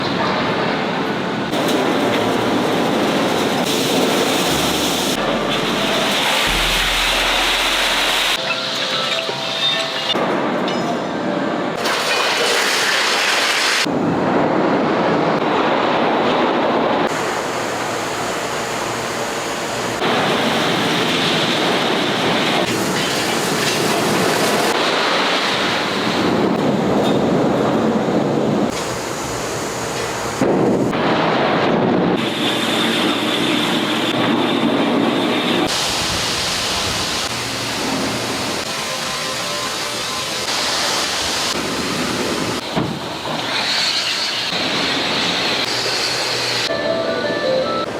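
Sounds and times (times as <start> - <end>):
industrial machinery rumbling: 0.0 - 12.4, 13.8 - 47.9.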